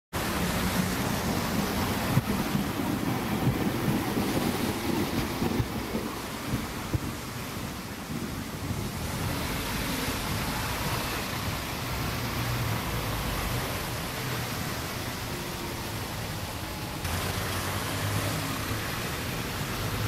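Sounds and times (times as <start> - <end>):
city street traffic: 0.1 - 20.0.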